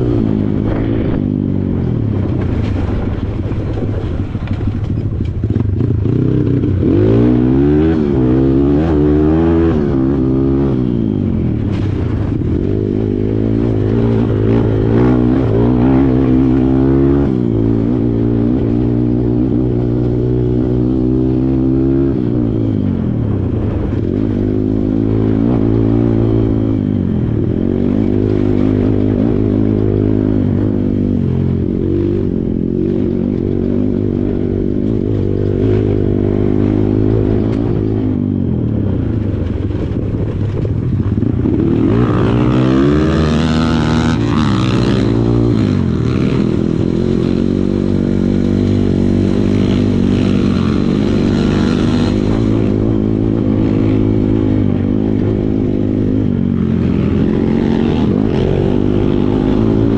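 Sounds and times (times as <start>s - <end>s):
dirt bike engine revving: 5.4s - 59.9s.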